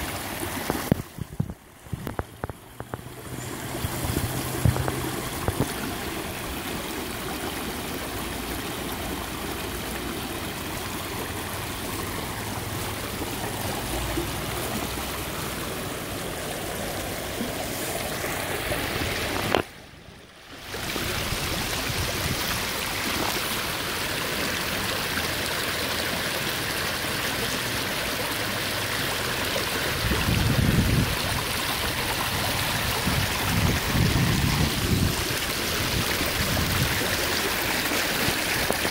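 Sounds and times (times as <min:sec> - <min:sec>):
stream burbling over stones: 0:00.0 - 0:38.9.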